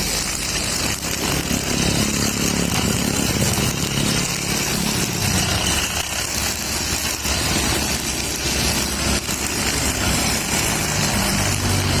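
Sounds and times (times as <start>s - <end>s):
brush cutter engine running: 0.0s - 12.0s
trimmer line hissing: 0.0s - 12.0s.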